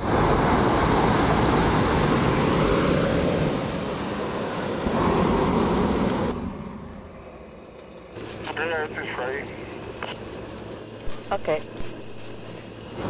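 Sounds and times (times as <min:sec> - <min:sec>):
propane burner blast: 0:00.0 - 0:07.4, 0:08.2 - 0:13.0.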